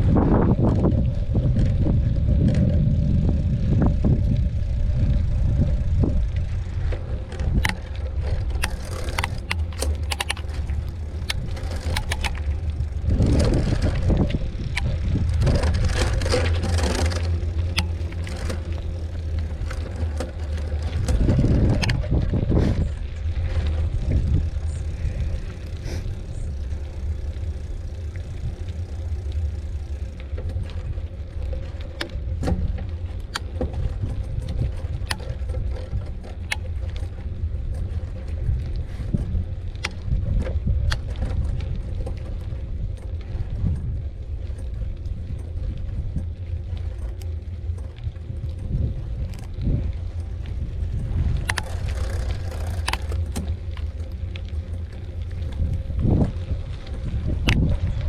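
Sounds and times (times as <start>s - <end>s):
bike clicks and rattles: 0.0s - 58.0s
wind rumbling on microphone: 0.0s - 58.0s.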